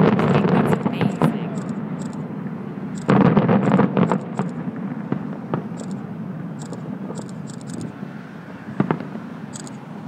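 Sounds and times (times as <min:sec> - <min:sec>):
distant fireworks booms: 0:00.0 - 0:10.0.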